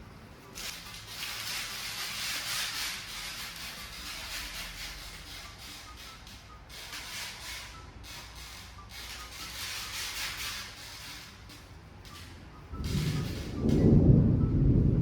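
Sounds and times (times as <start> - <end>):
scratchy rubbing noise: 0.6 - 13.9.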